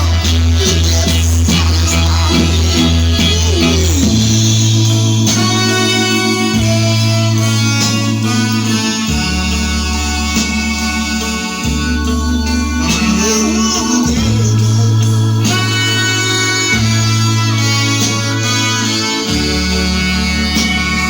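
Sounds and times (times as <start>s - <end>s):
deep bass line: 0.0s - 21.0s
higher music chords: 0.0s - 21.0s.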